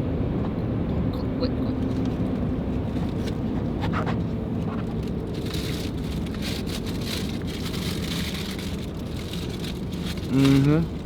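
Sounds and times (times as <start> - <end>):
vehicle cabin road rumble: 0.0 - 11.0.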